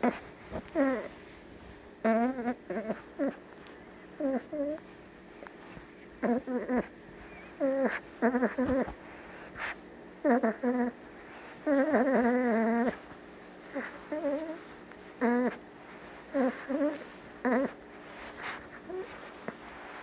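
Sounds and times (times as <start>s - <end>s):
puppy whimpering and whining: 0.0s - 1.2s, 2.0s - 20.0s.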